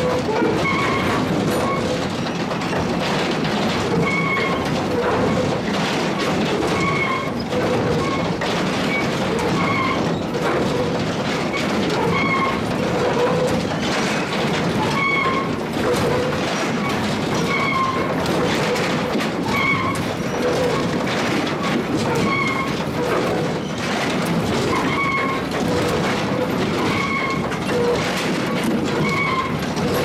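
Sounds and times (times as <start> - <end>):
machinery clatter and knocks: 0.0 - 30.0.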